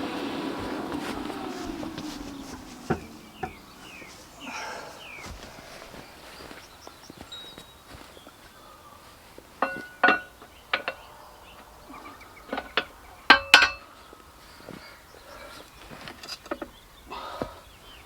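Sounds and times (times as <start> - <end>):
faint bird chirps: 0.0 - 9.4, 10.3 - 18.0.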